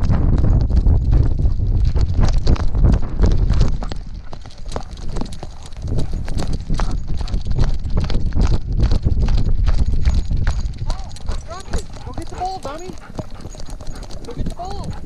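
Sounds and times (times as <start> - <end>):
low microphone rumble: 0.0 - 4.2, 5.1 - 13.2
dog paws striking dry dirt: 0.0 - 15.0.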